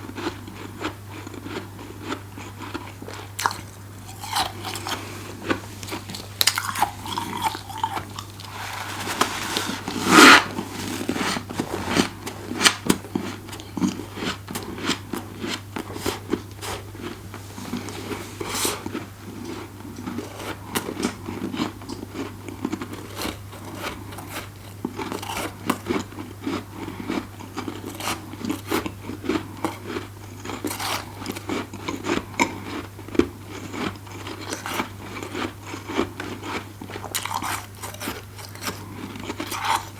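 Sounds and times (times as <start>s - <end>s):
crunching and chewing frost: 0.0s - 39.9s.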